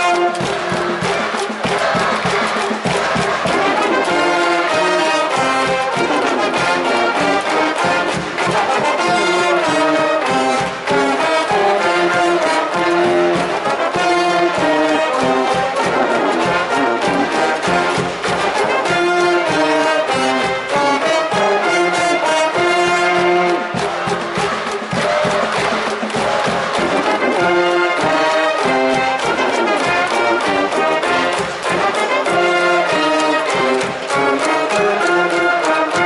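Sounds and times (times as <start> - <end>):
brass band playing: 0.0 - 36.0
regular drumbeat: 0.0 - 36.0.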